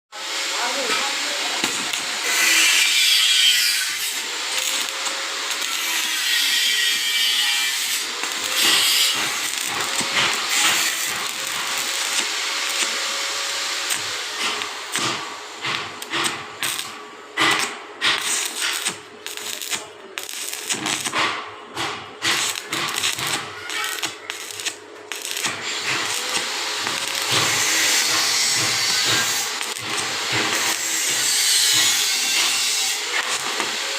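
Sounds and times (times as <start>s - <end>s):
welding arc sizzling: 0.2s - 33.9s
welding crackles and pops: 0.8s - 33.9s.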